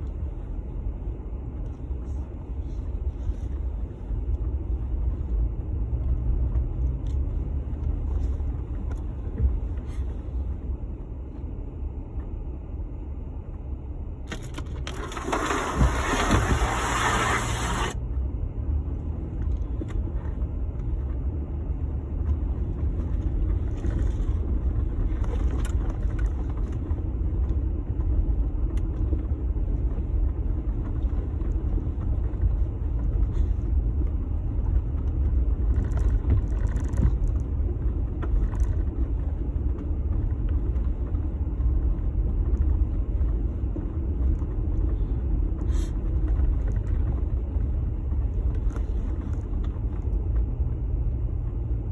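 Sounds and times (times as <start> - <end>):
pickup truck engine and tyres rumbling: 0.0 - 51.9.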